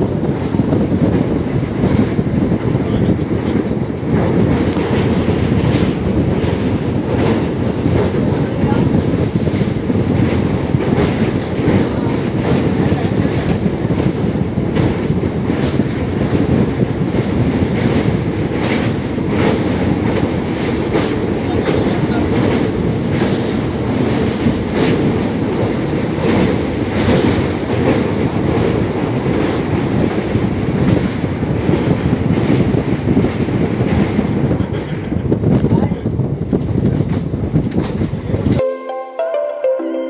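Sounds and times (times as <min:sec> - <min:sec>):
train wheels rumbling: 0:00.0 - 0:38.5.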